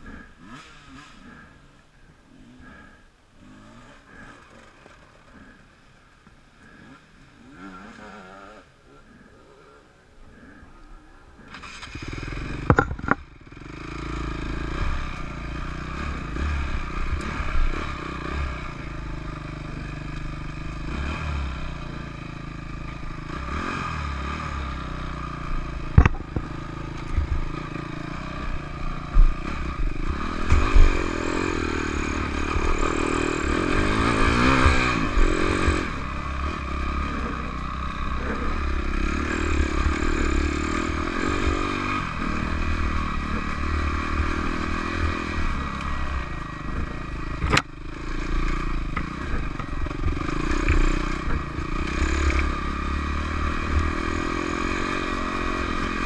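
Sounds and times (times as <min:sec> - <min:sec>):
dirt bike engine revving: 0:00.0 - 0:05.8, 0:06.6 - 0:08.8, 0:11.4 - 0:56.0.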